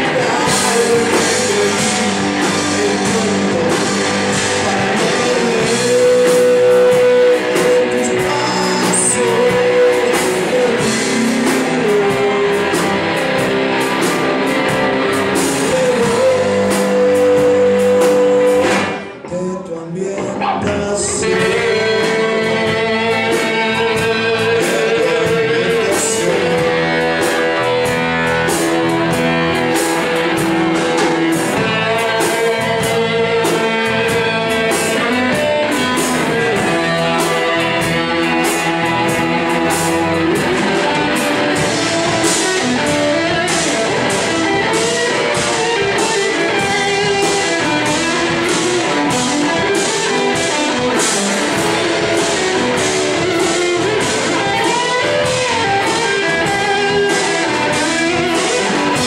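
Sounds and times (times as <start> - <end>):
electric guitar melody: 0.0 - 59.0
live rock band playing: 0.0 - 59.0.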